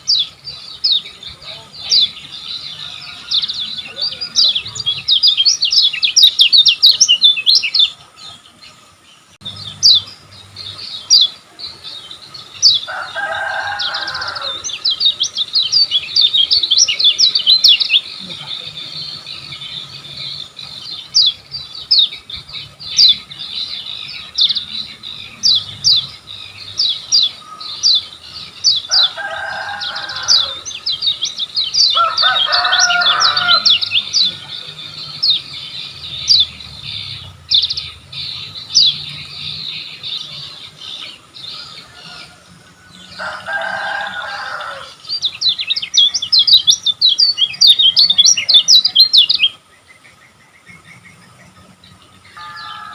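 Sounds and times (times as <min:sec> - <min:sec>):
bird singing fast chirps: 0:00.0 - 0:52.9
lower rough bird calls: 0:00.0 - 0:52.9.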